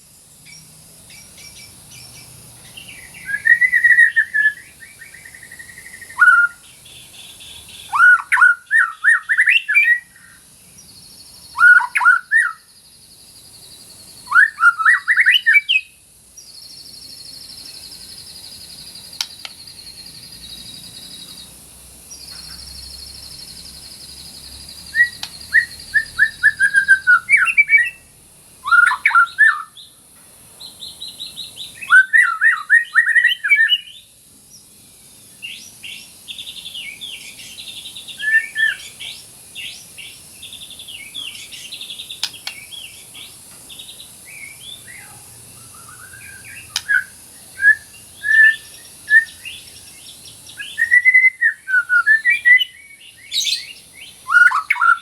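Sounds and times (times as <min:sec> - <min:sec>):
bird whistled song: 0:00.0 - 0:12.8, 0:13.4 - 0:23.1, 0:23.7 - 0:30.0, 0:30.6 - 0:34.7, 0:35.3 - 0:55.0.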